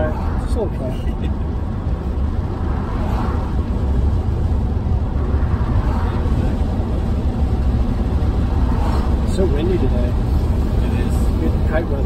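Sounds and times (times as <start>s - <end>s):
road rumble inside vehicle: 0.0s - 12.0s.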